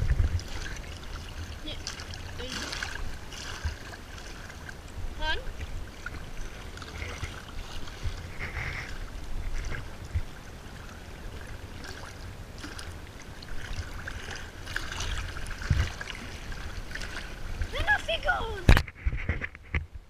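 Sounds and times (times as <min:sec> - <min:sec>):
water lapping over rock: 0:00.0 - 0:18.9
wind buffeting microphone: 0:00.0 - 0:20.0.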